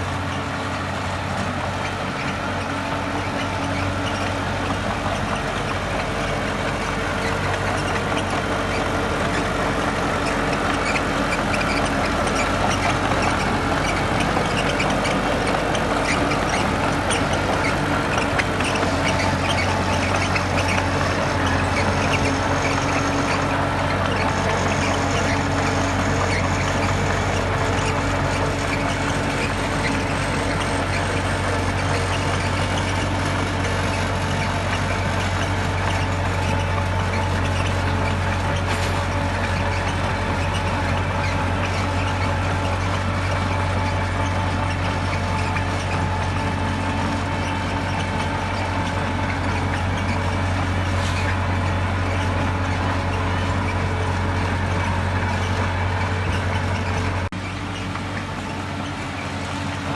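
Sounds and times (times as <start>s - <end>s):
diesel machinery engine hum: 0.0s - 59.9s
high squeaks: 1.5s - 59.9s.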